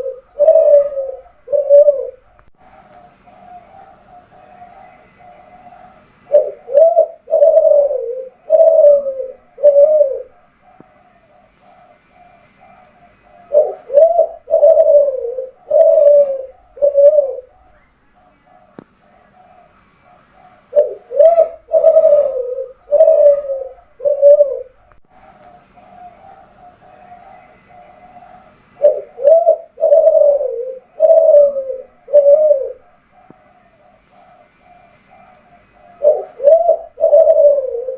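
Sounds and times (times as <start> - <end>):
dove cooing: 0.0 - 37.9.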